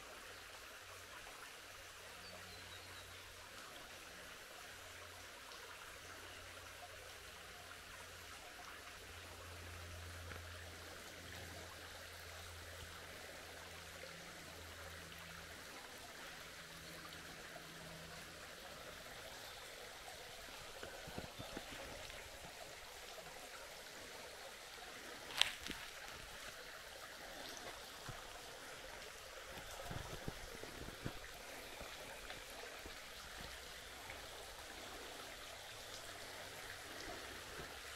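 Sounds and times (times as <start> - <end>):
creek water running: 0.0 - 37.9.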